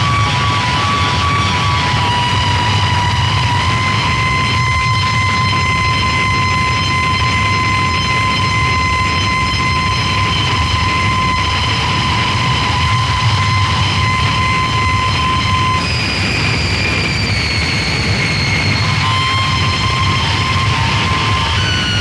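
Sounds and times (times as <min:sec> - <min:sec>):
distorted noise wall: 0:00.0 - 0:22.0
high whines: 0:00.0 - 0:22.0
low rumble: 0:00.0 - 0:22.0.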